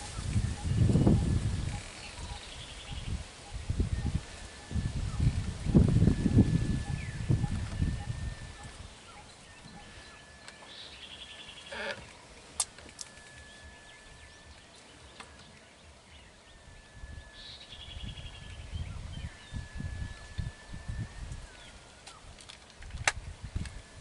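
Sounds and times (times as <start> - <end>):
bird whistling: 0.0 - 11.9, 12.9 - 22.3
bird trills: 0.0 - 22.4.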